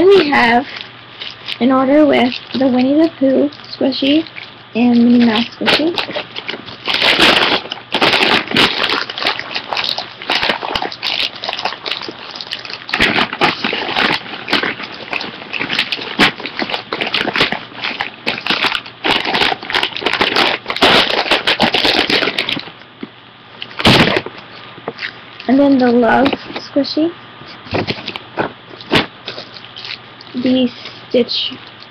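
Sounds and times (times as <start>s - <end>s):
toys and packaging crinkling: 0.0s - 22.8s, 23.6s - 26.6s, 27.6s - 31.0s.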